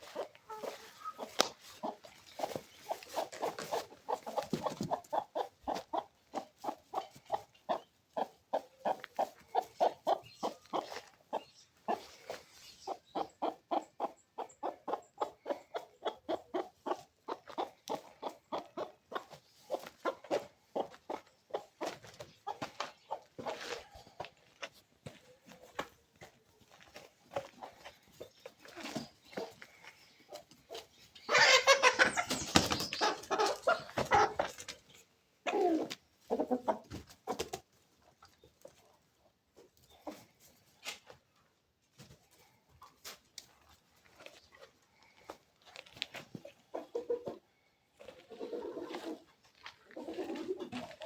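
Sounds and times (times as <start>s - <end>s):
chickens clucking: 0.0s - 41.4s, 42.0s - 51.0s.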